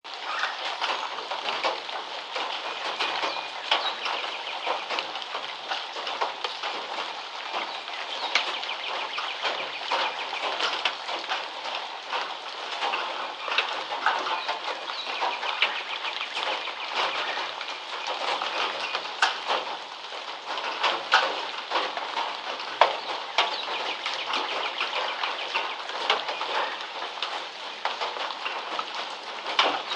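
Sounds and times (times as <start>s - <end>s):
rain on a tin roof: 0.0s - 29.9s
songbirds chirping: 0.1s - 29.9s.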